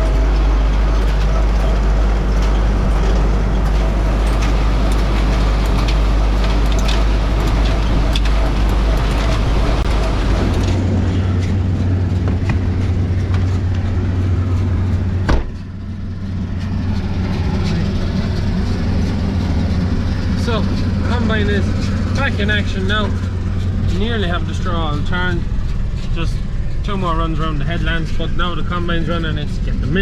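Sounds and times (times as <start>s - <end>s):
small clicks and rattles: 0.0s - 27.3s
diesel tractor engine drone: 0.0s - 30.0s.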